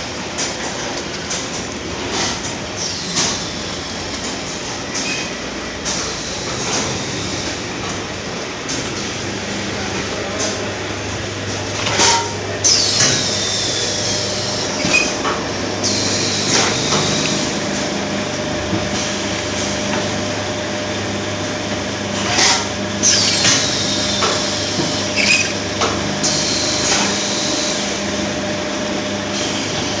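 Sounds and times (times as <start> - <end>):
filling machine humming: 0.0 - 30.0.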